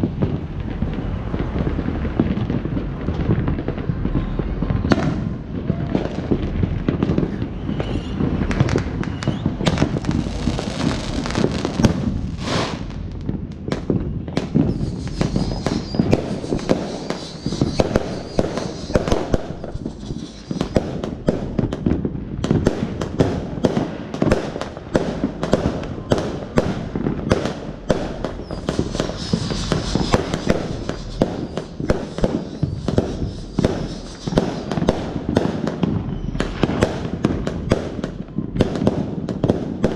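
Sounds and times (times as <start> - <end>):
fireworks bangs and crackling pops: 0.0 - 39.9.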